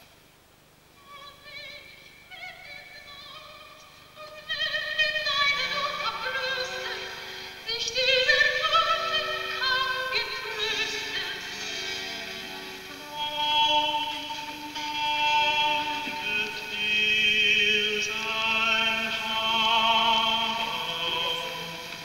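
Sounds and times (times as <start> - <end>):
music with opera-like melody: 0.9 - 22.0.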